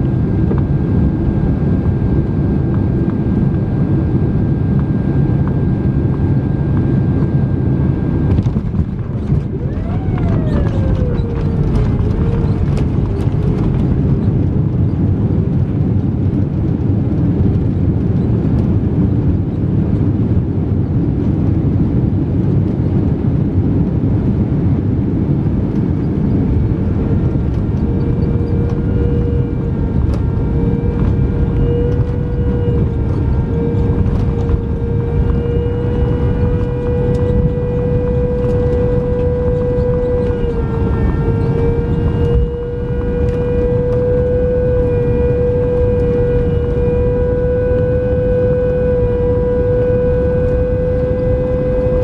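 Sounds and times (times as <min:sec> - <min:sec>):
jet engine whine: 0:00.0 - 0:52.0
jet engines roaring: 0:00.0 - 0:52.0.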